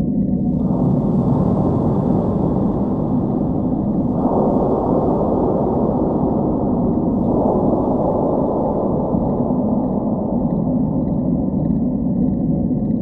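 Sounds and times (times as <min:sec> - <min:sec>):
low rumbling drone: 0:00.3 - 0:13.0.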